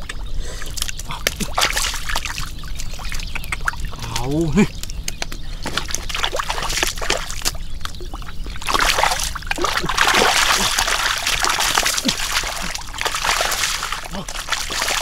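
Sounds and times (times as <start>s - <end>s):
splashing in shallow muddy water: 0.0s - 15.0s.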